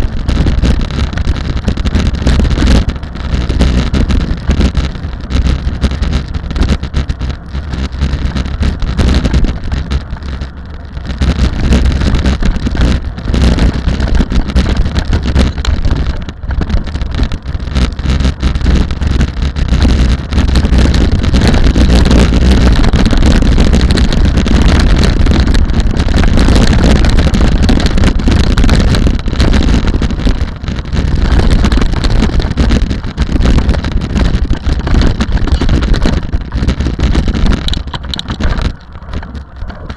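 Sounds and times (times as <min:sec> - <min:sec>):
rally car engine running hard: 0:00.0 - 0:39.9
wind buffeting microphone: 0:00.0 - 0:39.9.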